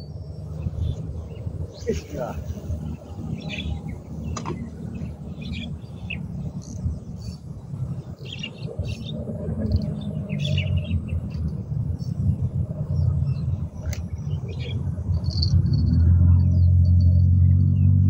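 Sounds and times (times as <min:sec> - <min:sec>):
birds chirping: 0:00.0 - 0:18.0
continuous low rumble: 0:00.0 - 0:18.0.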